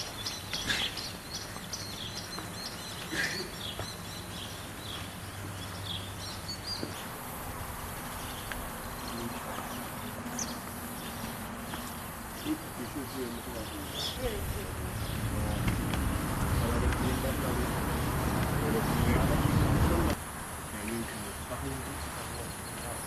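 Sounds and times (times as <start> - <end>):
birds chirping: 0.0 - 23.0
outdoor background noise: 0.0 - 23.0.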